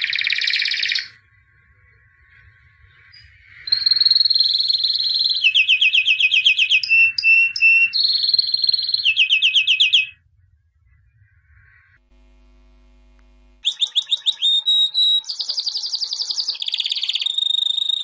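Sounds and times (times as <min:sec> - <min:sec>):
canary singing with trills: 0:00.0 - 0:10.2, 0:13.6 - 0:18.0.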